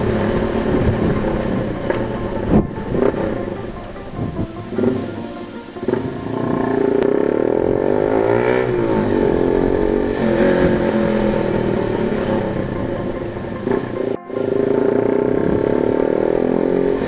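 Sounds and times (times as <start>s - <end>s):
loud motorcycle engine revving: 0.0s - 17.0s.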